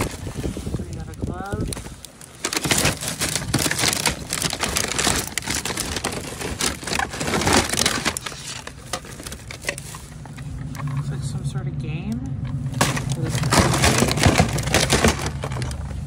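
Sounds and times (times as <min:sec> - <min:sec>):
plastic bag crinkling: 0:00.0 - 0:11.0, 0:12.7 - 0:16.0.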